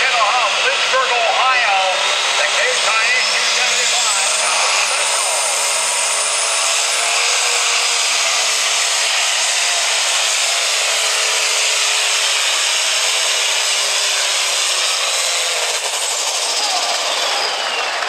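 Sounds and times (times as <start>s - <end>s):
tractor diesel engine roaring: 0.0s - 18.0s.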